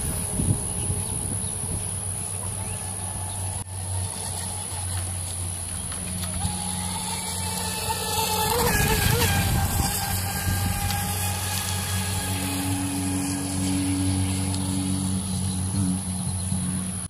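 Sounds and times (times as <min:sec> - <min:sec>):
electric boat motor whining: 0:00.0 - 0:17.0.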